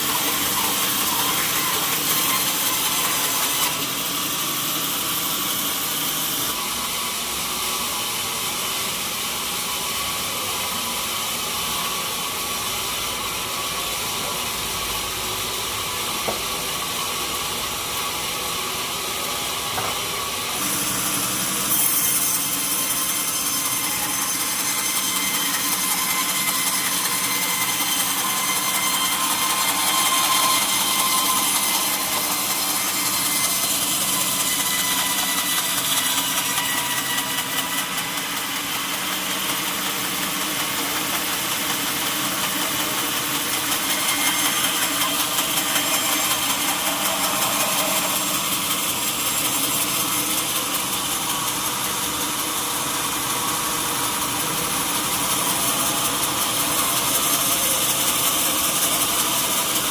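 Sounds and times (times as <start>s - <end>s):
saw whining through log: 0.0s - 59.9s.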